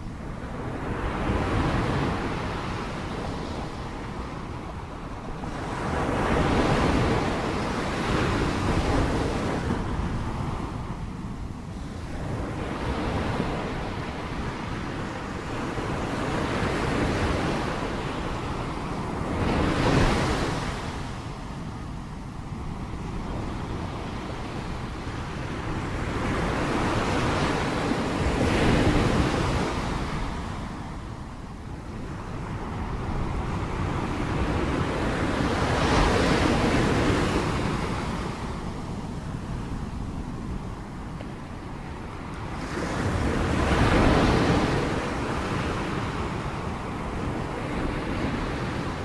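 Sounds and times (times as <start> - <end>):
wind on microphone: 0.0 - 49.0.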